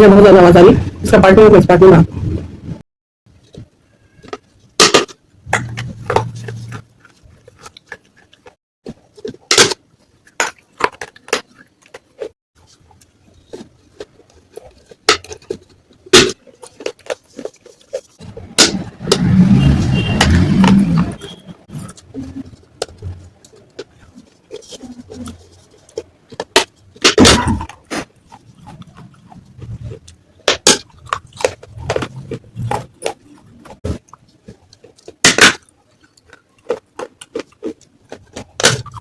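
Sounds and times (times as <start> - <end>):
clay pot pieces cracking and crunching: 3.4 - 19.4, 21.7 - 39.0.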